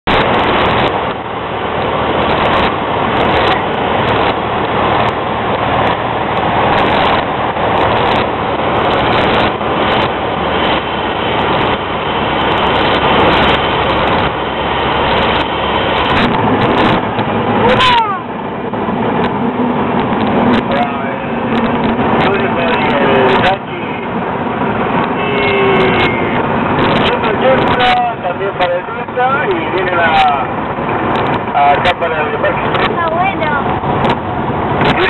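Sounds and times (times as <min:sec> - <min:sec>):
light plane engine and propeller: 0:00.0 - 0:35.0.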